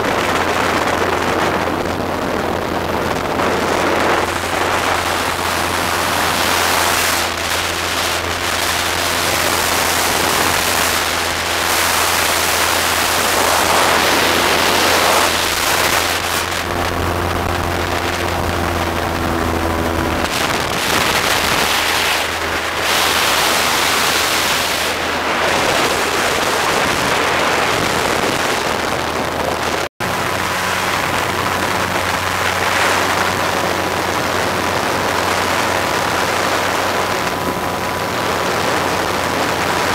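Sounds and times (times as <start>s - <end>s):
motorboat engine drone: 0.0s - 39.9s
wind rushing over microphone: 0.0s - 39.9s.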